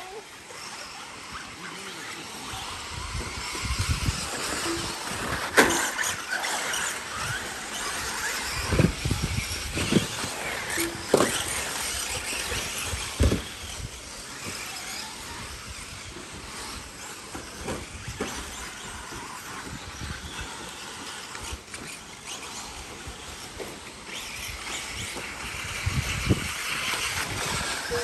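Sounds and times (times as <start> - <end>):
rc truck motors whining: 0.0 - 28.0.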